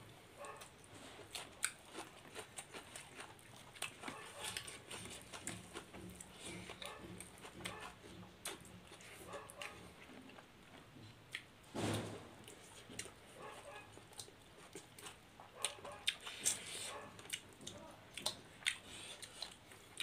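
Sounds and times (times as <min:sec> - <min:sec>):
wet chewing and lip smacks: 0:00.5 - 0:11.5, 0:12.4 - 0:20.0.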